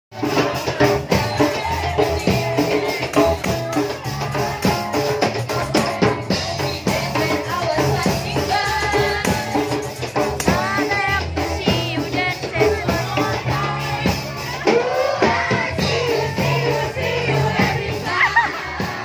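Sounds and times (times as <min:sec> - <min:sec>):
live ska band playing: 0:00.1 - 0:19.0
person singing: 0:00.2 - 0:19.0.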